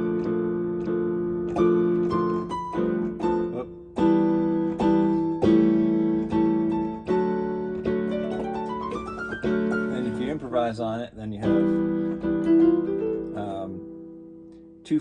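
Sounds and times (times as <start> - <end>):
piano chords and melody: 0.0 - 15.0.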